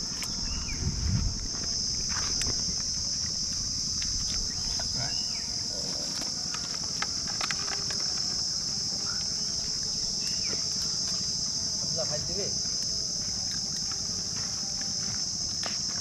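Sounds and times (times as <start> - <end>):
insects droning in trees: 0.0 - 16.0.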